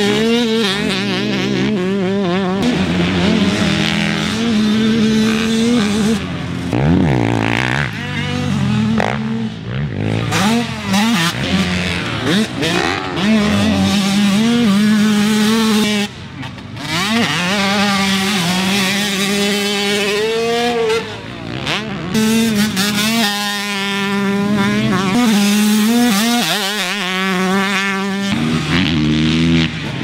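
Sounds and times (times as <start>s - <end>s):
two-stroke engine revving high: 0.0s - 30.0s.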